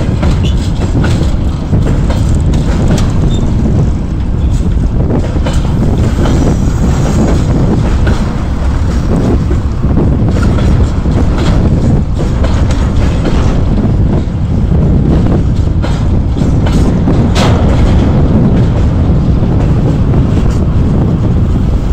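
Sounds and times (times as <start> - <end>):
freight train wheels rumbling on rails: 0.0 - 21.9
wind buffeting microphone: 0.0 - 21.9.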